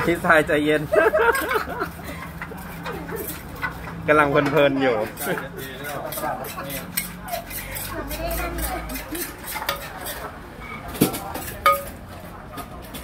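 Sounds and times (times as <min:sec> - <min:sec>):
metal spoons scraping and clinking: 0:01.4 - 0:04.0, 0:04.8 - 0:13.0.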